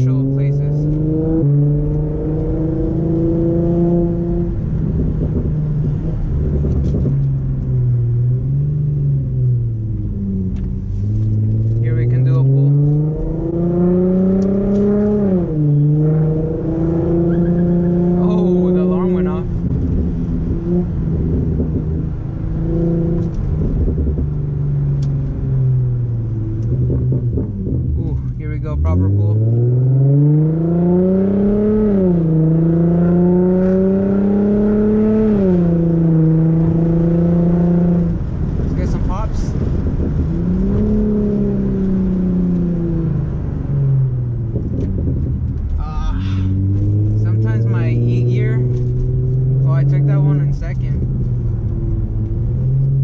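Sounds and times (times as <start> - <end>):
car engine heard from inside: 0.0 - 53.0.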